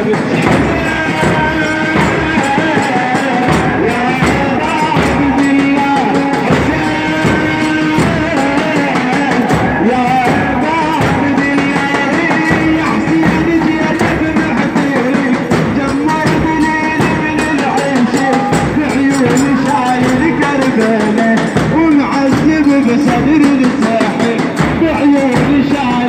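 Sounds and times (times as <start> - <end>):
person singing a lament: 0.0 - 26.0
steady beat: 0.0 - 26.0.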